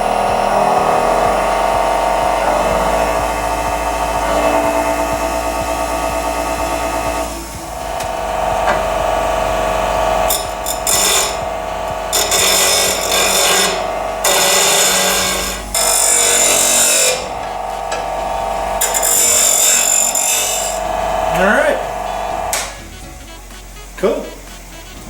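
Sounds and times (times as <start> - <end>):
bench grinder whine: 0.0 - 25.0
harsh grinding against wheel: 0.0 - 25.0.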